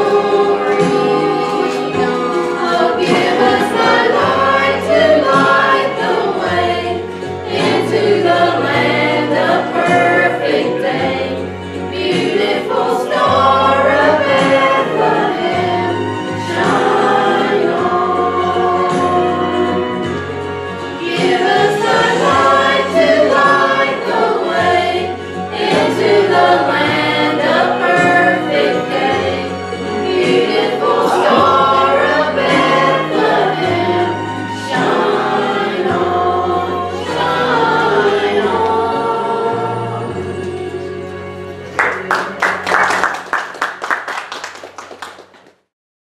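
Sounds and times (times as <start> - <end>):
mixed choir singing: 0.0 - 42.1.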